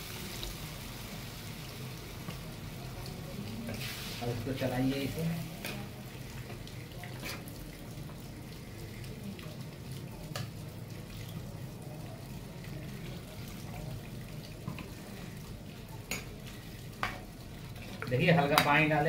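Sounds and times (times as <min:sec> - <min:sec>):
cooking hiss: 0:00.0 - 0:19.0
ladle stirring gravy: 0:01.8 - 0:19.0.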